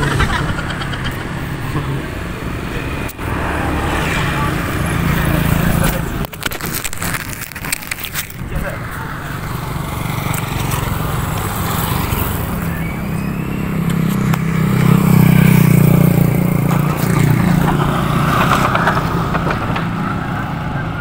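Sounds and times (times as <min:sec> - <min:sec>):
motorcycles passing: 0:00.0 - 0:21.0
road traffic: 0:00.0 - 0:21.0.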